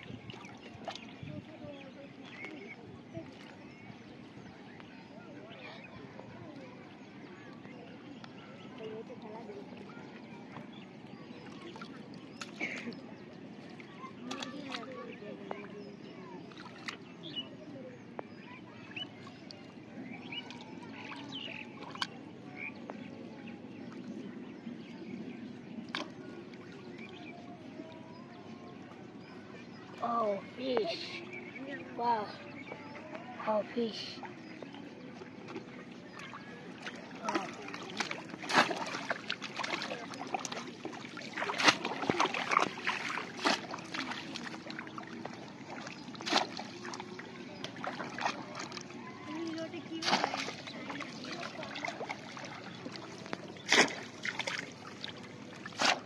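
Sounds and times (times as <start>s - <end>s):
water sloshing: 0.0s - 56.0s.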